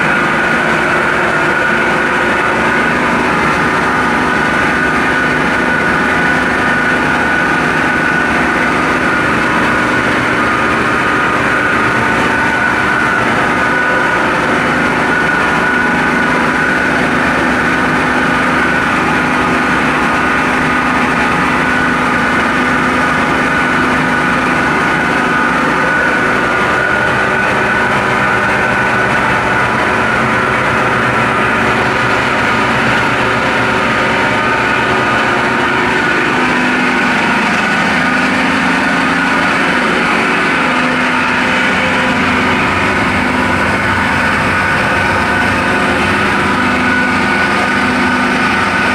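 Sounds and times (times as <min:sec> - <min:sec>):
turbine and generator running: 0:00.0 - 0:48.9.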